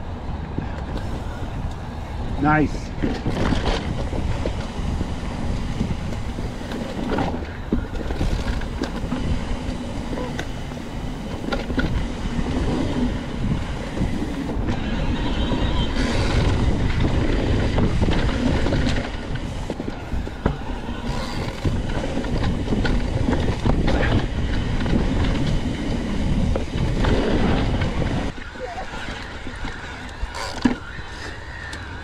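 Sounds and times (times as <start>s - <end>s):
bike rattling: 0.0s - 32.0s
wind on microphone: 0.0s - 32.0s
bike tyres rumbling on dirt: 0.2s - 32.0s.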